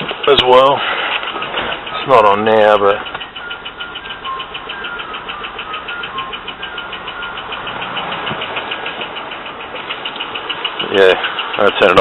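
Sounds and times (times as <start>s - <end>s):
car engine idling with knock: 0.0s - 12.0s.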